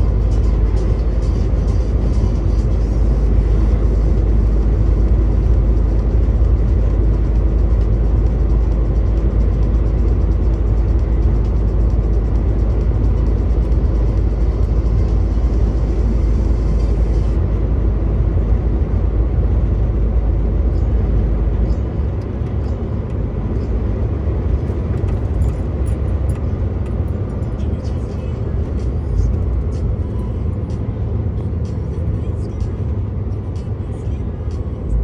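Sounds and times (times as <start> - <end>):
truck engine rumble inside cab: 0.0 - 35.0.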